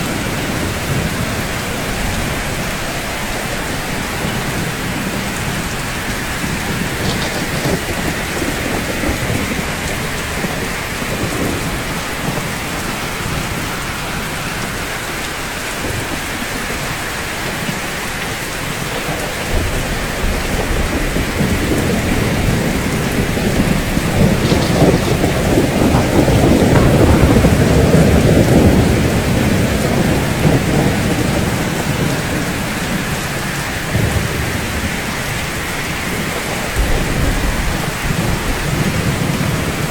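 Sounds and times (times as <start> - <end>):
steady rain falling: 0.0 - 39.9
thunder rolling: 0.0 - 39.9.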